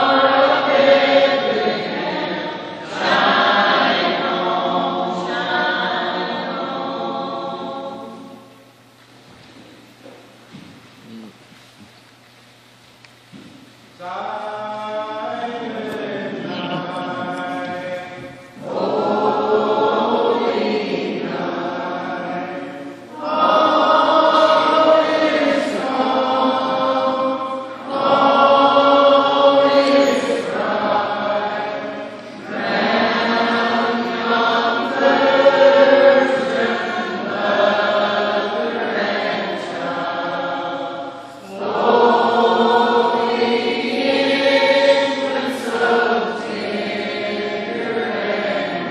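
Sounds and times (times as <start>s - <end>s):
mixed choir singing: 0.0s - 8.5s, 14.0s - 48.9s.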